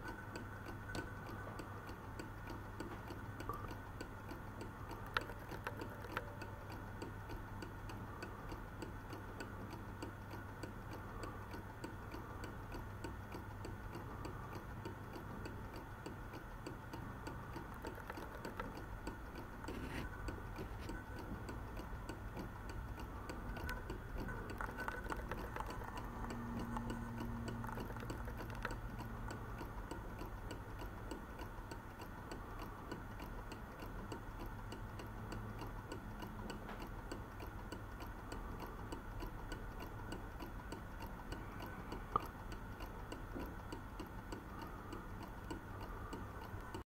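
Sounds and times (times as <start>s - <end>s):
clock ticking: 0.0s - 46.8s.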